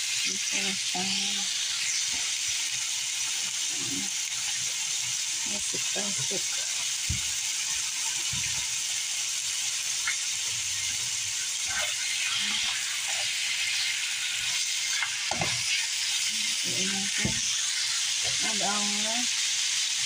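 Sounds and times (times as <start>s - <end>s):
chicken sizzling in a frying pan: 0.0s - 20.0s.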